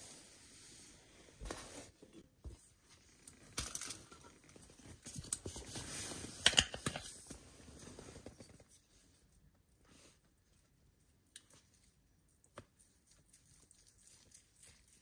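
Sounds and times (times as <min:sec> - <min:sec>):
rustling food prep: 0:00.0 - 0:15.0.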